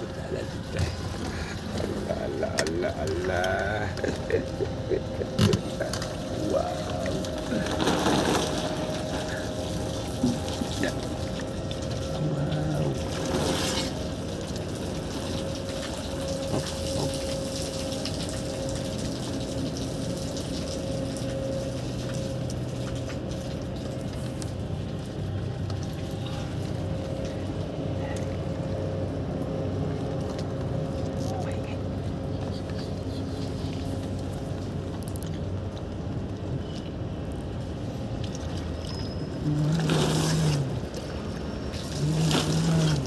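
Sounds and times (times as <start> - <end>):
water splashing and pouring: 0.0 - 27.8, 33.6 - 43.0
rush of water: 0.0 - 28.4, 33.7 - 43.0
steady hum: 0.0 - 38.6.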